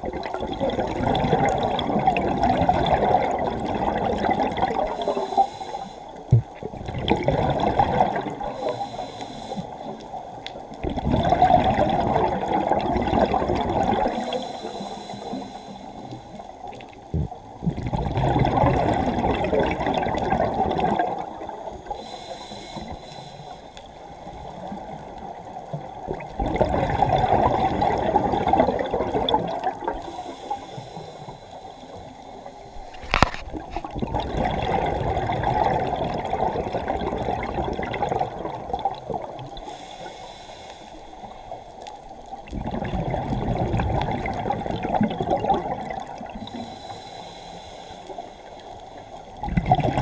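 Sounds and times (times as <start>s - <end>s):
underwater exhaust bubbles gurgling: 0.0s - 50.0s.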